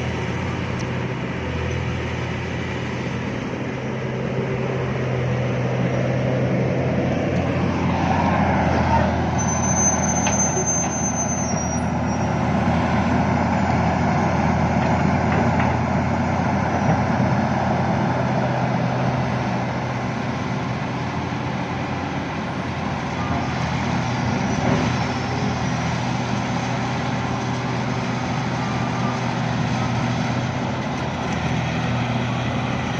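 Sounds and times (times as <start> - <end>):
heavy diesel engine droning: 0.0 - 32.9.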